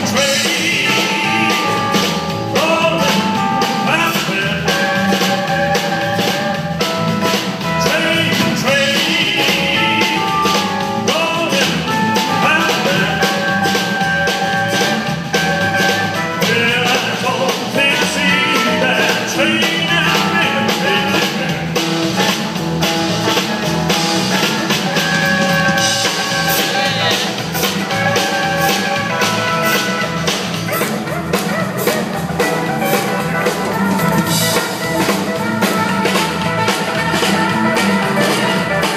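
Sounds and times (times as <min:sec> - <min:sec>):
man singing: 0:00.0 - 0:22.4, 0:23.9 - 0:38.9
rock band playing: 0:00.0 - 0:38.9.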